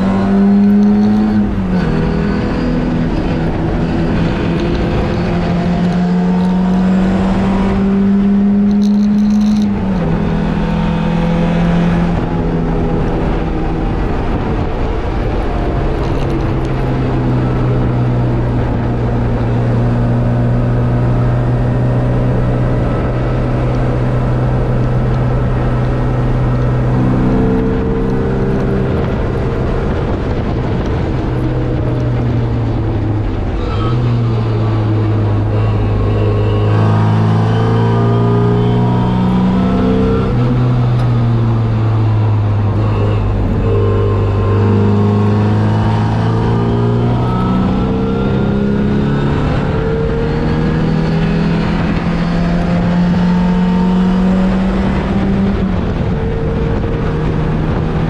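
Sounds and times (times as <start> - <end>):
race car engine under load: 0.0 - 58.0
road noise: 0.0 - 58.0
wind noise: 0.0 - 58.0.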